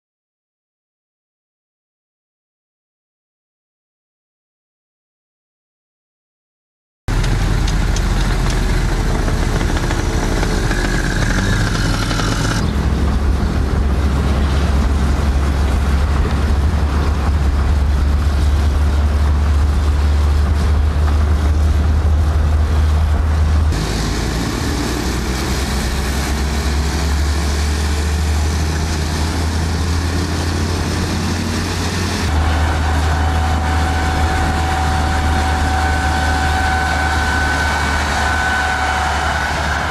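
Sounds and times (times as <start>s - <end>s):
rumble of moving traffic: 7.1s - 39.9s.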